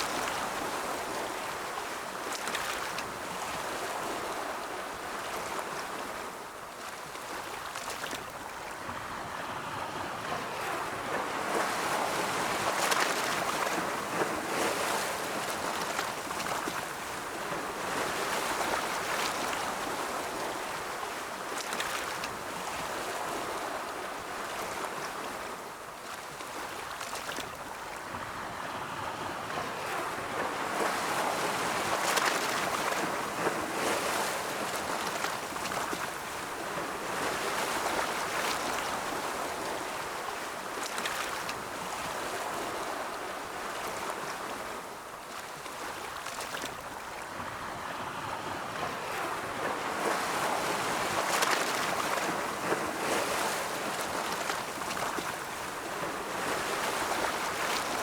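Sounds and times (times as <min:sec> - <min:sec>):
ocean waves rolling in: 0:00.0 - 0:58.0.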